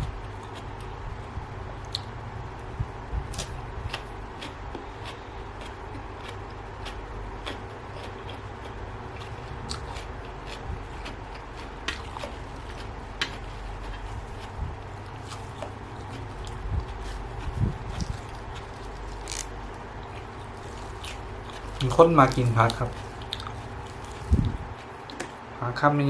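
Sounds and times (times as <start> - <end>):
steady low hum: 0.0 - 26.0
chewing crunches: 3.3 - 25.4.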